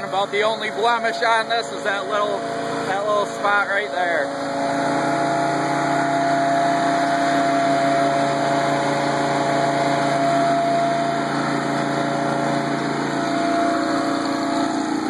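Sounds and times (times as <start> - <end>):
loader engine running steadily: 0.0 - 15.0.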